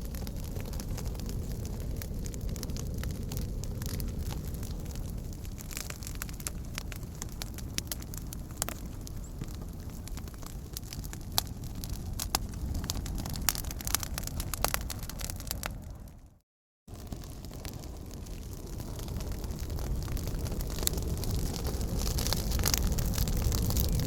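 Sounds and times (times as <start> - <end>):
fire crackling and popping: 0.0 - 24.0
low rumble: 0.0 - 24.0.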